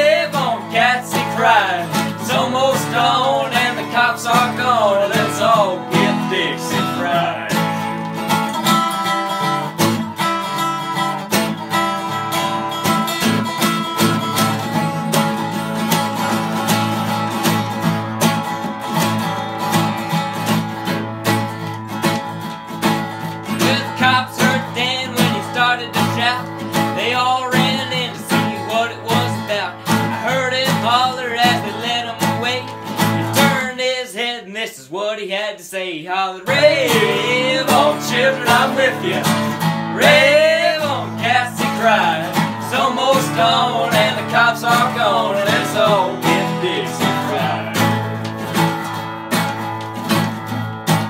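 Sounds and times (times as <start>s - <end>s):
picked lead guitar: 0.0s - 33.7s, 36.5s - 51.0s
acoustic guitar strumming: 0.0s - 34.4s, 36.4s - 51.0s.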